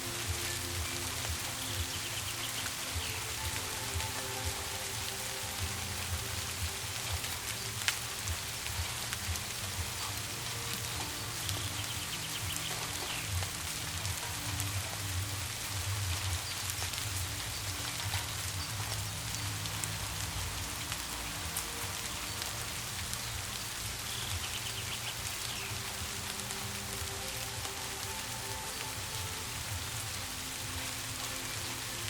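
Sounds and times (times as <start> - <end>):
soft low background music: 0.0 - 32.0
steady rain falling: 0.0 - 32.0.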